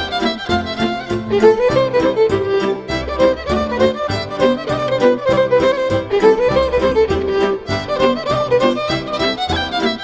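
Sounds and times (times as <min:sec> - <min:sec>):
violin playing a folk tune: 0:00.0 - 0:10.0.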